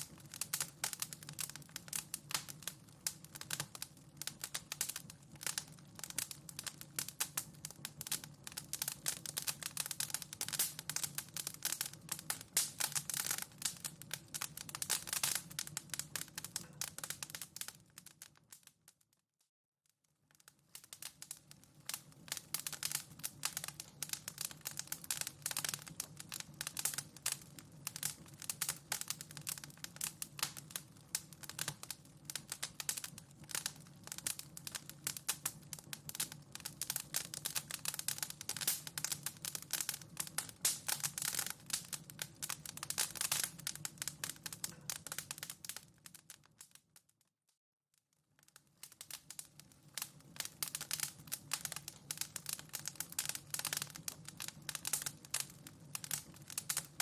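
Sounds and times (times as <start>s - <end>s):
wood fire crackling: 0.0s - 19.0s, 20.1s - 47.1s, 48.4s - 57.0s.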